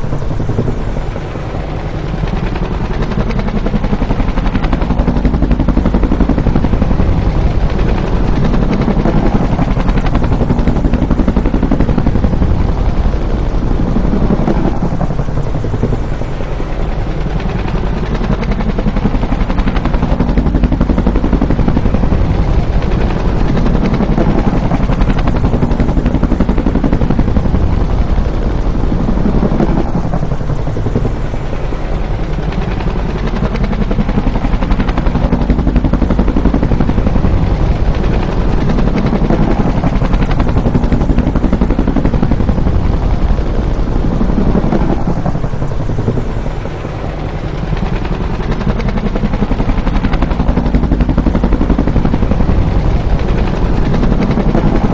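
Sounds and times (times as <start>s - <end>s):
helicopter rotor beating: 0.0s - 54.9s
turbine noise: 0.0s - 54.9s.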